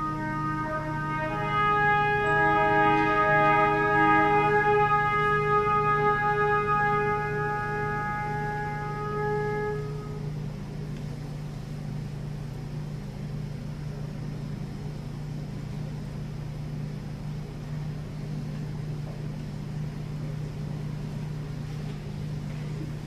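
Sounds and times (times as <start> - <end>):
background hiss: 0.0 - 23.0
steady low hum: 0.0 - 23.0.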